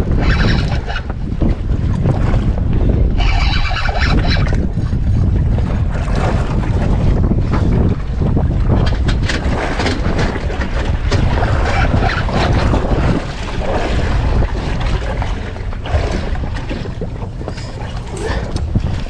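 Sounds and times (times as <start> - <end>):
water sloshing against hull: 0.0 - 19.0
wind buffeting microphone: 0.0 - 19.0.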